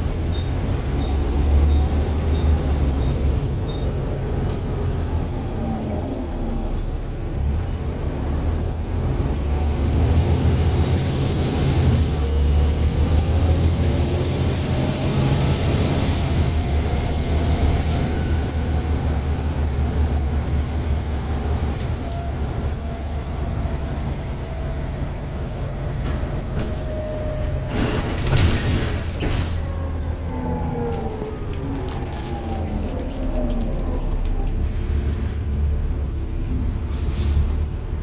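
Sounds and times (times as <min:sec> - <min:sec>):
bus engine drone: 0:00.0 - 0:38.0.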